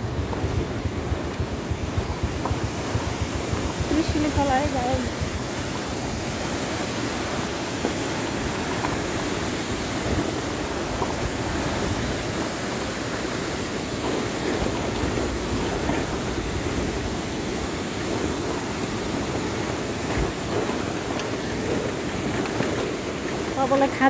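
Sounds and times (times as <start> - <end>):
river rushing over rapids: 0.0 - 24.0
wind noise on microphone: 0.0 - 24.0.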